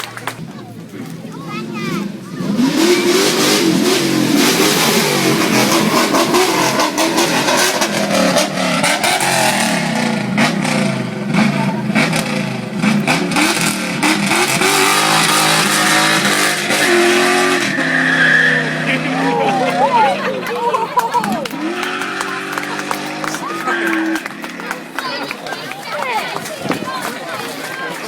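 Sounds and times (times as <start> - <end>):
supercar engines revving: 0.0 - 28.0.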